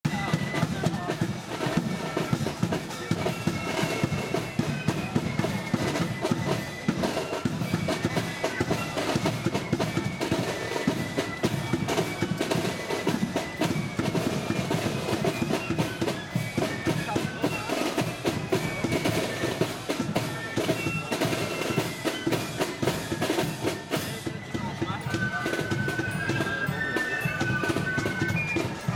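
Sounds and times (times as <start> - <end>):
flutes playing a march: 0.0 - 28.9
side drums: 0.0 - 28.9.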